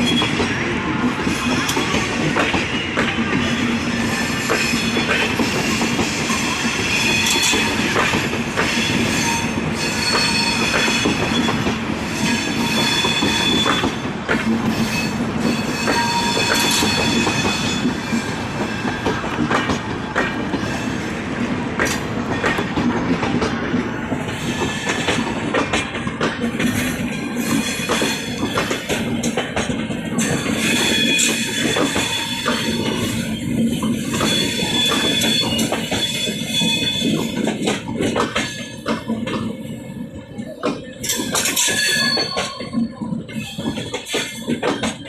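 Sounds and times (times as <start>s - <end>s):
wheels squealing against rails: 0.0s - 21.2s, 24.0s - 45.0s
train wheels clicking over rail joints: 0.0s - 45.0s.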